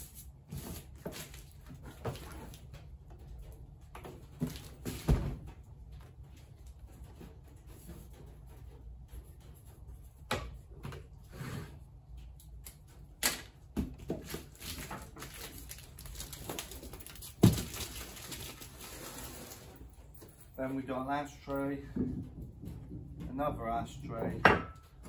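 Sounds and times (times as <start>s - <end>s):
items handled with clicks and knocks: 0.0s - 25.0s.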